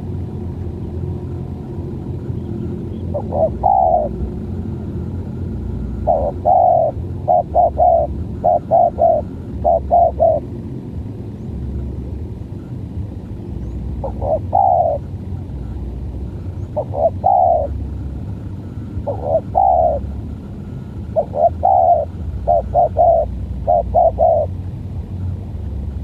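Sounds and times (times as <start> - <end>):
steady low rumble: 0.0 - 26.0
doves cooing: 1.5 - 10.7, 12.5 - 24.6.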